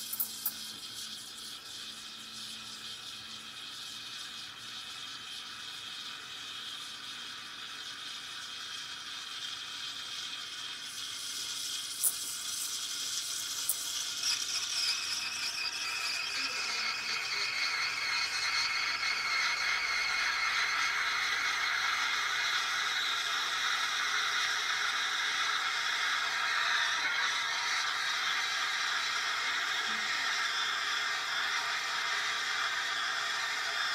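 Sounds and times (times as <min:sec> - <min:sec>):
steam wand hissing into milk: 0:00.0 - 0:33.9.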